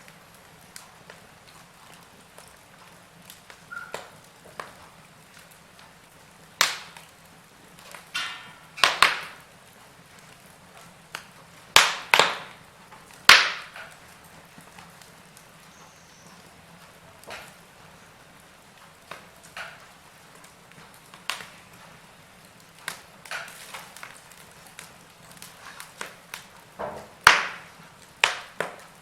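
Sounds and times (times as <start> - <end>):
faint steady hiss: 0.0 - 29.0
wood fire crackling: 0.0 - 29.0.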